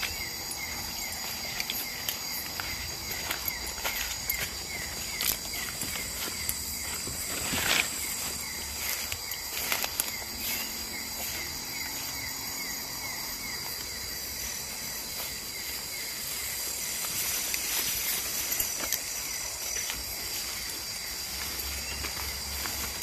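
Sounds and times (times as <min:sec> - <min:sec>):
footsteps rustling through brush: 0:00.0 - 0:23.0
insects trilling: 0:00.0 - 0:23.0.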